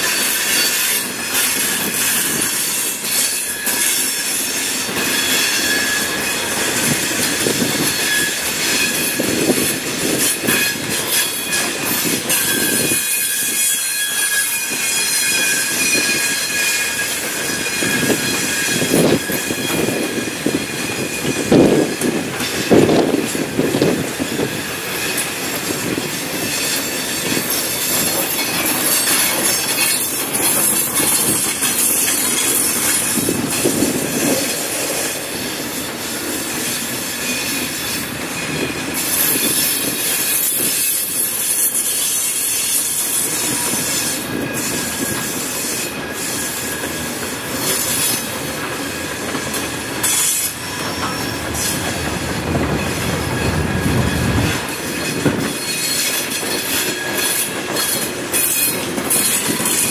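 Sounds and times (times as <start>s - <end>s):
train cars rolling past: 0.0s - 59.9s
wheels clicking over rail joints: 0.0s - 59.9s
wheels squealing: 0.0s - 59.9s.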